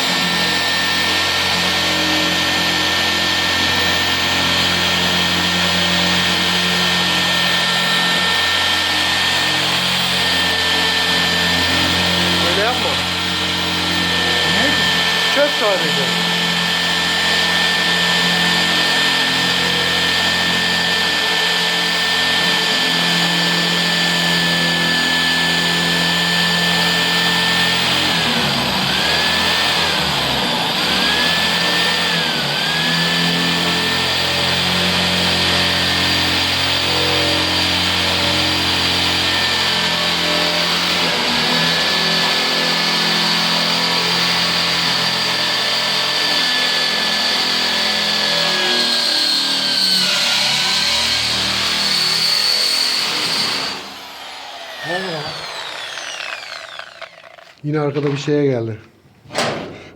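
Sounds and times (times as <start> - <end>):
hammer drill drilling: 0.0 - 58.4.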